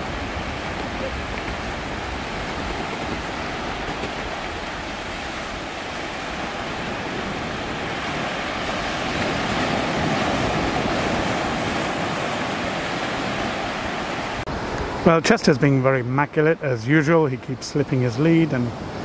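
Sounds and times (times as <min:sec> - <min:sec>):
waves breaking on sandy beach: 0:00.0 - 0:19.0.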